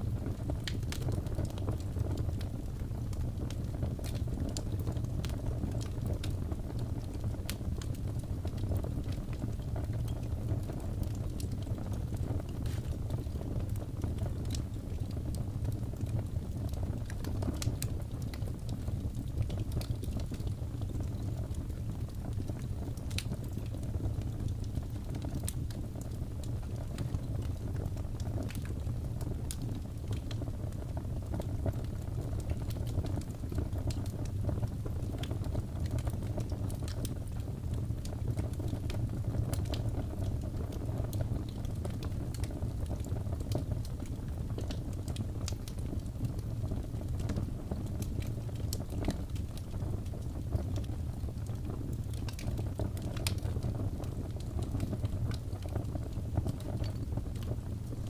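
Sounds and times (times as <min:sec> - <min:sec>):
fire crackles and pops: 0:00.0 - 0:58.0
wood fire rumbling: 0:00.0 - 0:58.0.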